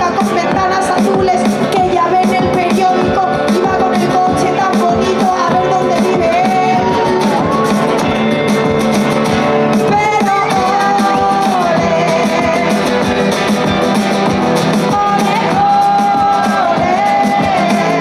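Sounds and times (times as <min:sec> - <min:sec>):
woman singing: 0:00.0 - 0:08.0, 0:09.7 - 0:13.4, 0:14.7 - 0:18.0
acoustic guitar: 0:00.0 - 0:18.0
electric guitar: 0:00.0 - 0:18.0
steady beat: 0:00.0 - 0:18.0.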